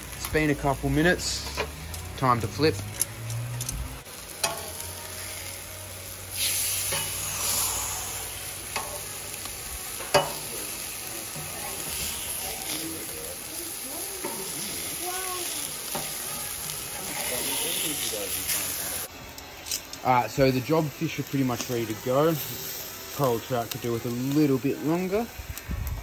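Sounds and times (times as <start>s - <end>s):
fish sizzling on hotplate: 0.0s - 26.0s.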